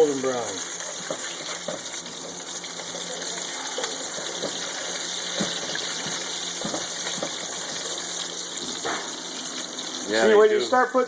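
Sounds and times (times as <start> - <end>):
pancakes sizzling in a pan: 0.0 - 11.0.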